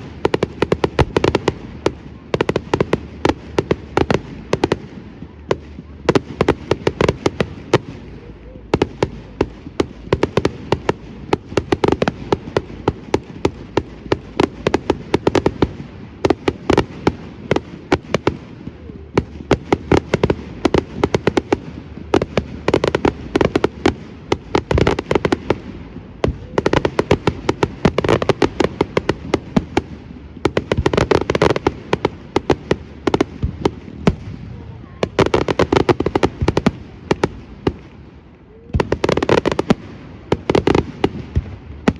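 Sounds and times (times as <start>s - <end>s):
fireworks bangs and crackling: 0.0s - 41.9s.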